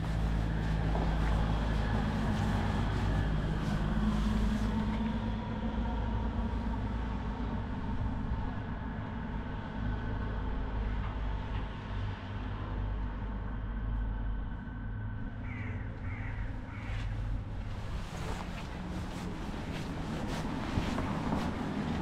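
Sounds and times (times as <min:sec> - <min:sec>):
motor engine hum: 0:00.0 - 0:22.0.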